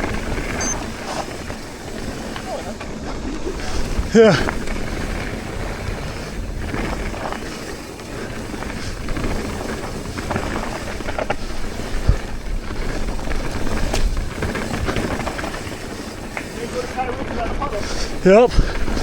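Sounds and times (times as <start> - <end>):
bike knocking over bumps: 0.0 - 19.0
mountain bike rolling on dirt: 0.0 - 19.0.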